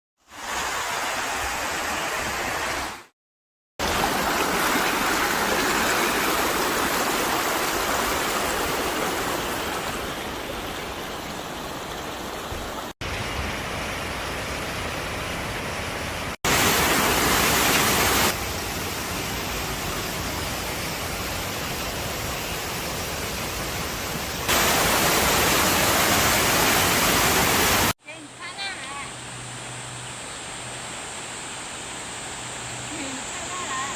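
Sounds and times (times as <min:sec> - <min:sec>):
stream water rushing over rocks: 0:00.2 - 0:03.1, 0:03.8 - 0:33.9.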